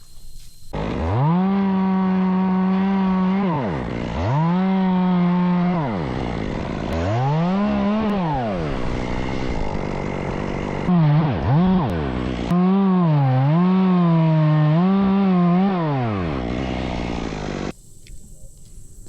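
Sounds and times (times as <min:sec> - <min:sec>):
chainsaw revving: 0:00.7 - 0:17.7.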